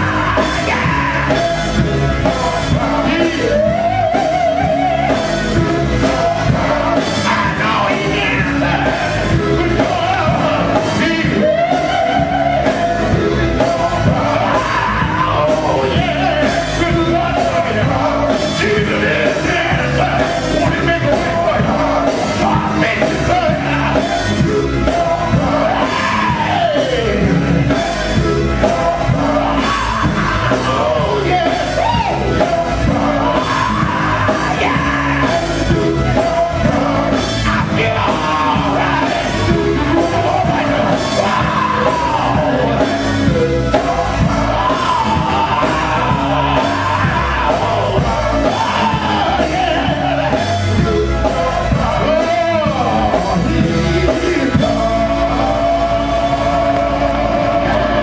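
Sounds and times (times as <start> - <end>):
bass guitar: 0.0 - 58.0
drums: 0.0 - 58.0
electric guitar: 0.0 - 58.0
person singing into a microphone: 0.0 - 58.0.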